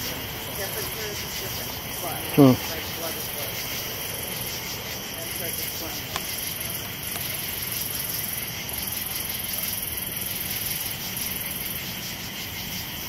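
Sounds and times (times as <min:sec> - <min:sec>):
constant background hiss: 0:00.0 - 0:13.0
high-pitched insect trill: 0:00.0 - 0:13.0
night insects chirping: 0:00.0 - 0:13.0.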